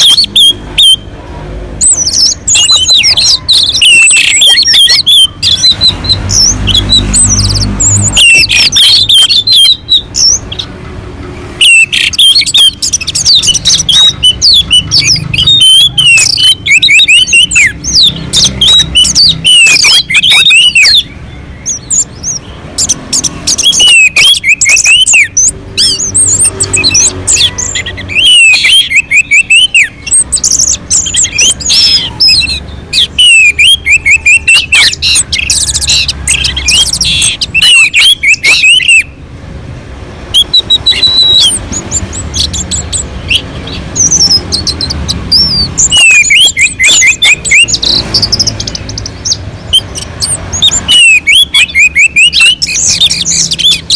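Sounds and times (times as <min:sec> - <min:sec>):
thrush singing: 0:00.0 - 0:53.9.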